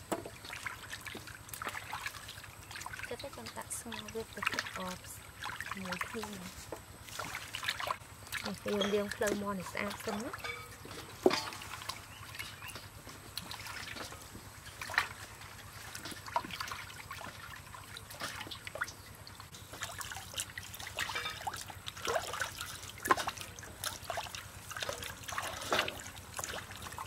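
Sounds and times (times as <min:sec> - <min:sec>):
water splashing in metal basin: 0:00.0 - 0:27.0.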